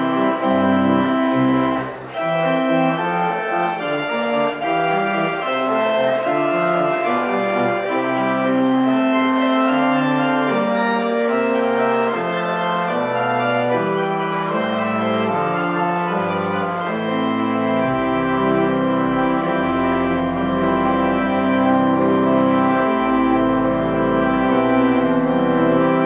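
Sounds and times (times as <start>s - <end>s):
deep organ pedal bass notes: 0.0s - 26.0s
organ chords: 0.0s - 26.0s.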